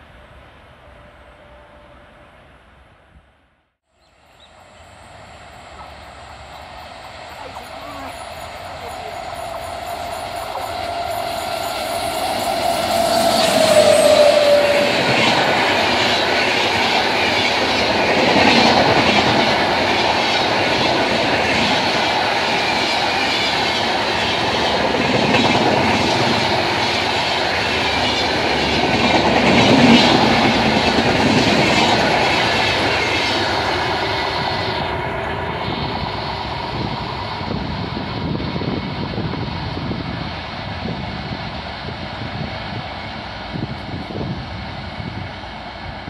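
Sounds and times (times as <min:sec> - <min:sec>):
train passing at speed: 0:00.0 - 0:46.0
wheel and rail rush: 0:04.0 - 0:46.0.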